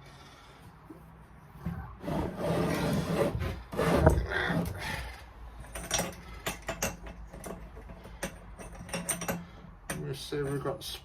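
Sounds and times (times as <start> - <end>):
engine parts scraping: 1.9 - 10.9.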